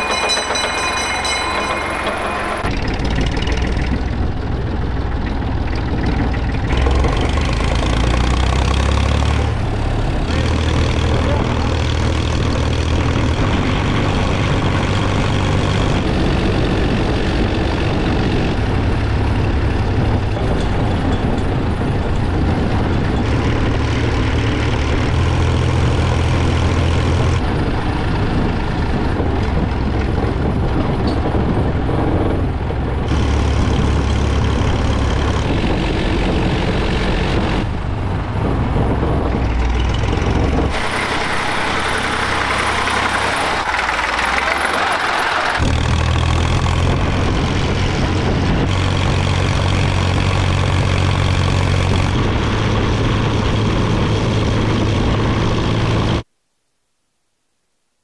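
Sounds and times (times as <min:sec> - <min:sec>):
tractor engine running: 0:00.0 - 0:56.3.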